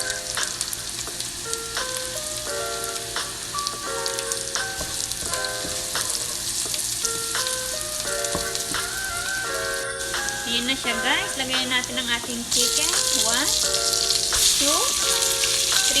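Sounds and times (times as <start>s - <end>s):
garlic and onion frying in oil: 0.0s - 16.0s.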